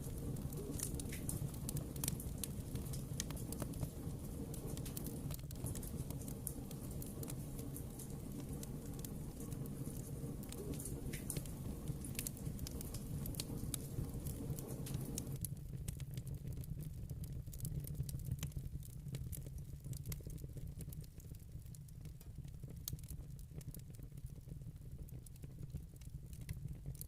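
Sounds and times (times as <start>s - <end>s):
fireplace fire crackling and popping: 0.0s - 27.0s.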